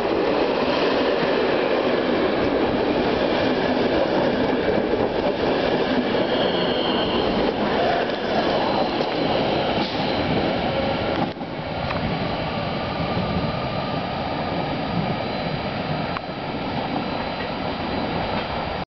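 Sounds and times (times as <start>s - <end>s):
train wheels rumbling on rails: 0.0s - 18.8s.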